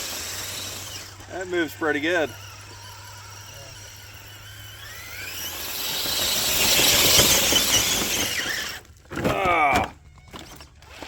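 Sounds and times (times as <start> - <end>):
electric motor whine: 0.0 - 9.0
tracks rattling over ground: 0.0 - 11.0.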